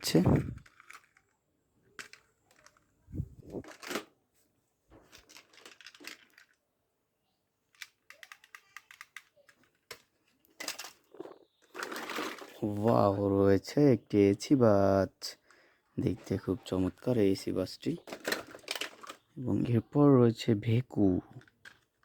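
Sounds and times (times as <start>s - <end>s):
plastic toy vehicles handled: 0.0s - 6.7s, 7.6s - 13.4s, 15.2s - 19.7s, 20.7s - 22.0s.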